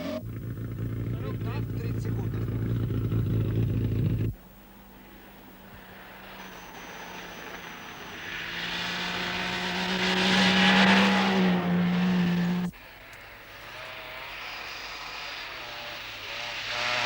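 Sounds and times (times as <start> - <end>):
quieter engine with wavering note: 0.0 - 17.0
rally car engine running hard: 0.0 - 17.0.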